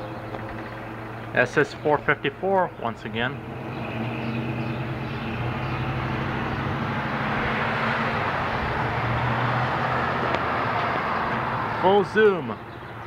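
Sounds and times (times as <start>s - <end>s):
tyre and road noise: 0.0s - 13.0s
vehicle engine hum: 0.0s - 13.0s.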